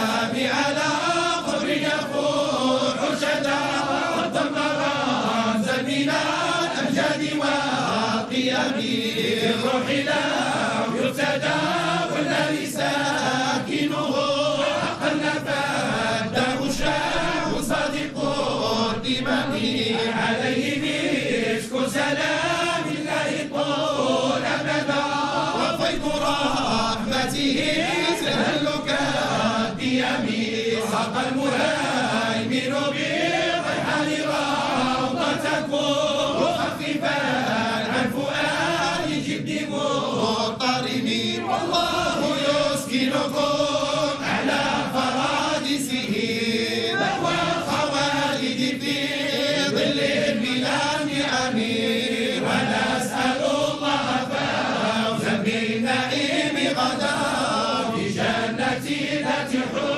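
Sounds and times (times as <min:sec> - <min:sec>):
group chanting religious verses: 0:00.0 - 0:59.9.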